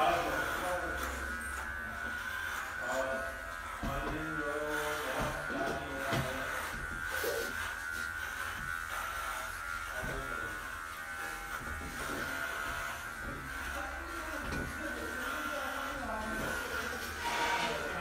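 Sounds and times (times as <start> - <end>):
electric hair clipper buzzing: 0.0 - 18.0.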